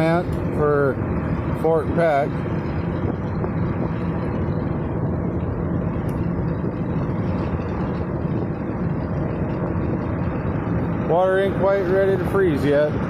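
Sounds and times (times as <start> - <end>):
low hum: 0.0 - 13.0
truck engine and road rumble: 0.0 - 13.0.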